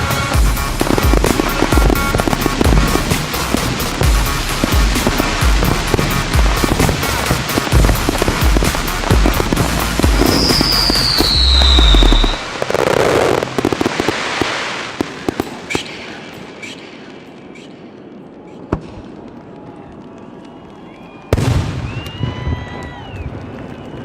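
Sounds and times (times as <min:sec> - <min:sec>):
firework whistle: 0:00.0 - 0:17.0, 0:20.3 - 0:24.0
fireworks crackling and bangs: 0:00.0 - 0:24.0.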